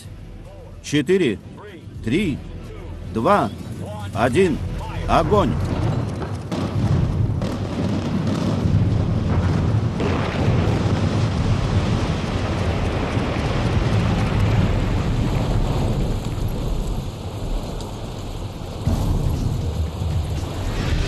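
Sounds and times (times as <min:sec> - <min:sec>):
building collapsing rumble: 0:03.0 - 0:21.0.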